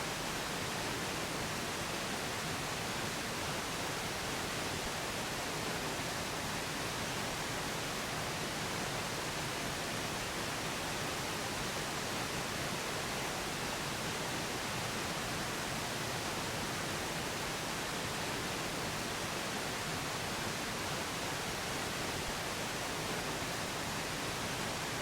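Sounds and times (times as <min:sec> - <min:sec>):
steady pink noise hiss: 0:00.0 - 0:25.0.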